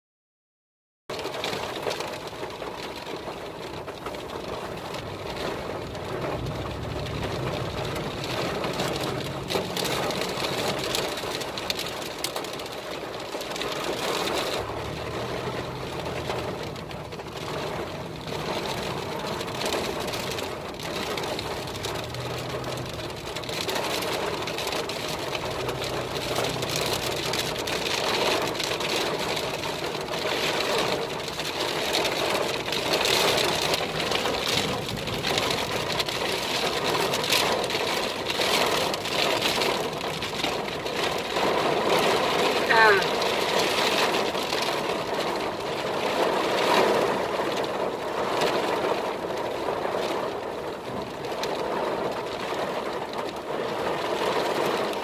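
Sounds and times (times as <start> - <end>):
heavy rain on car roof: 1.1 - 55.0
low engine hum: 1.2 - 55.0.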